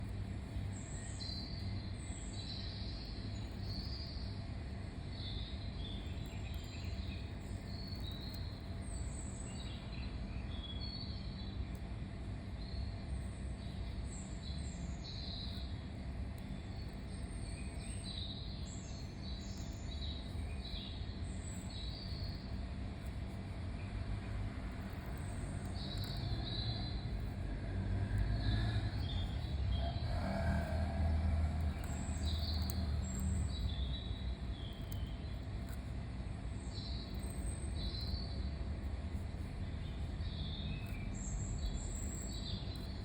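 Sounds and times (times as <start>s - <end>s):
low background rumble: 0.0s - 43.0s
small birds chirping: 0.0s - 43.0s.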